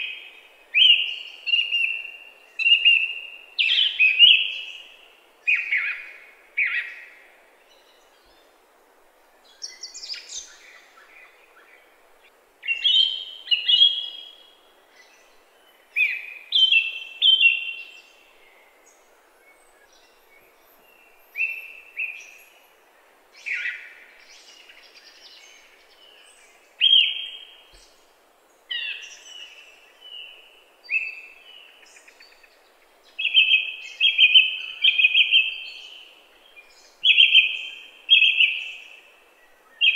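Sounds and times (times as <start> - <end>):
faint background noise: 0.0 - 39.9.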